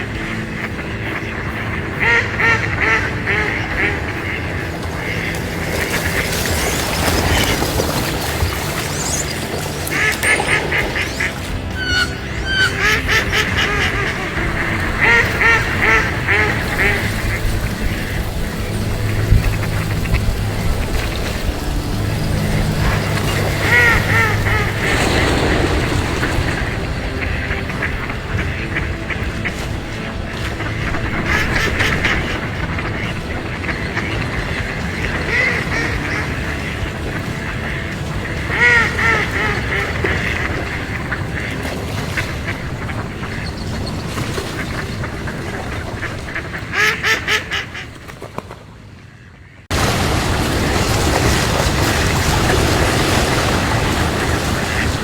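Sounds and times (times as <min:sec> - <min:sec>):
steady low rumble: 0:00.0 - 0:46.7
waterfowl calling: 0:00.0 - 0:48.4, 0:49.2 - 0:55.0
steady background noise: 0:00.0 - 0:55.0.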